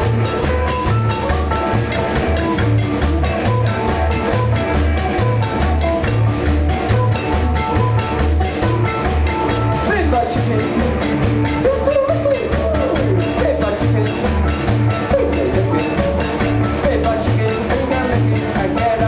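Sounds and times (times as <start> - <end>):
rockabilly band playing: 0.0 - 19.0.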